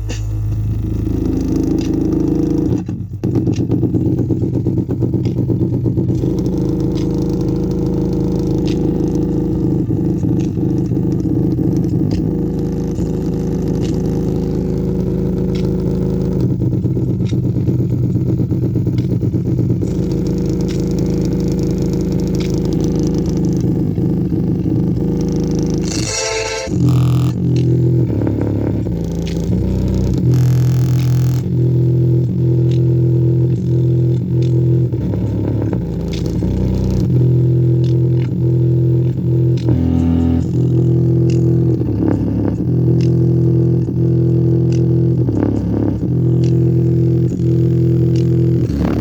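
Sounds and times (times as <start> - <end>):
distorted bass notes from woofer: 0.0 - 49.0.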